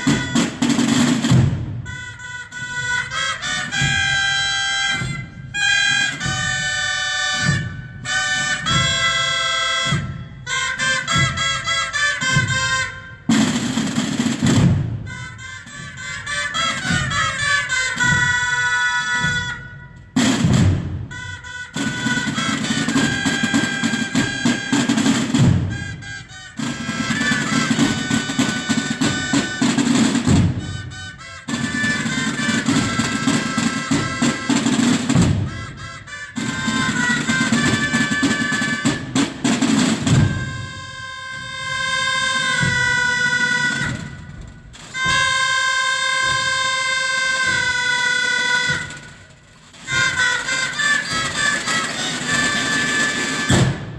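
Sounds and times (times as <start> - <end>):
drum and bugle band march: 0.0 - 53.9
held bugle notes: 0.0 - 53.9
snare and bass drum rolls: 0.0 - 53.9.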